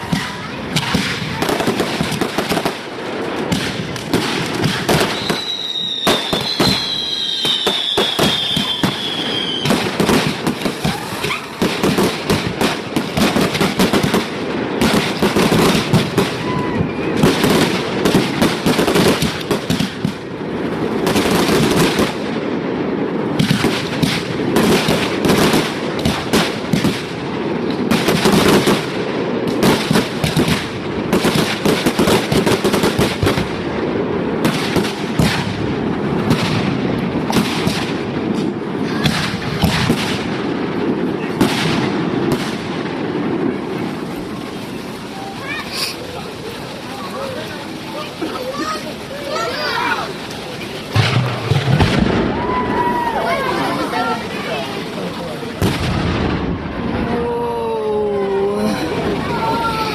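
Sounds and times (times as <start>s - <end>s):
fireworks bangs and crackles: 0.0s - 59.9s
whistling fireworks: 0.0s - 59.9s.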